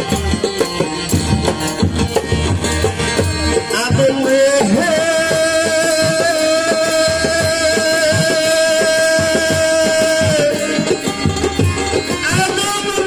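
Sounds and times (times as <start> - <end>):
banjo: 0.0 - 13.0
quick percussion rhythm: 0.0 - 13.0.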